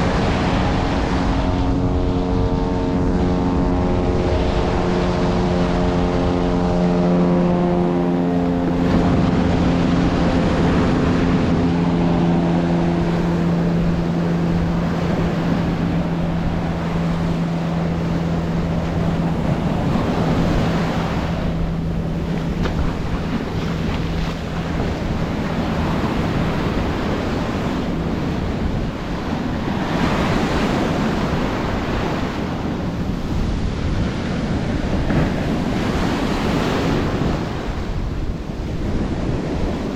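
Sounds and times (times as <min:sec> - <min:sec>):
low engine drone: 0:00.0 - 0:39.9
ocean surf washing onto shore: 0:00.0 - 0:39.9
wind buffeting microphone: 0:00.0 - 0:39.9.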